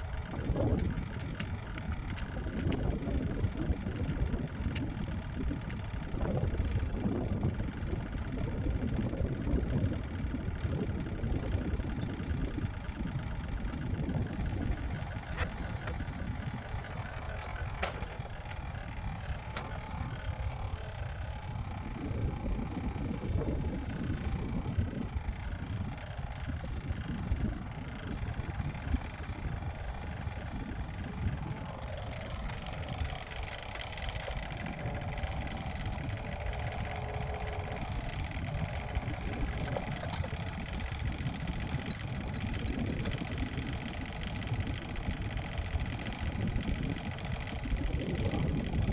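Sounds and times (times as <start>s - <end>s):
heavy machinery engine rumbling: 0.0s - 48.9s.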